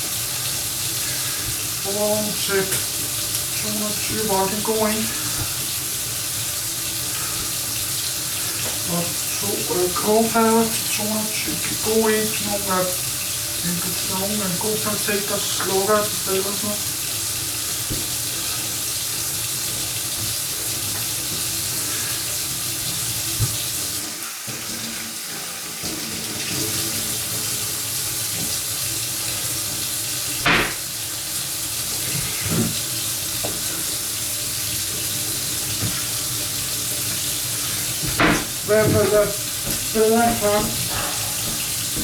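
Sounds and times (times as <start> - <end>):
tap water running into sink: 0.0 - 42.0.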